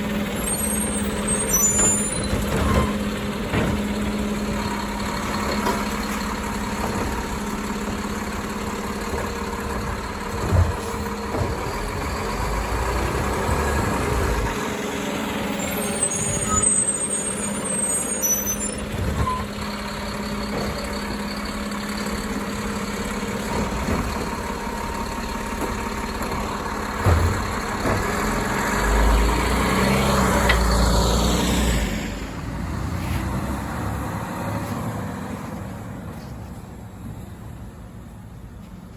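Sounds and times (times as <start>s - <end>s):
garbage truck engine running: 0.0s - 33.7s.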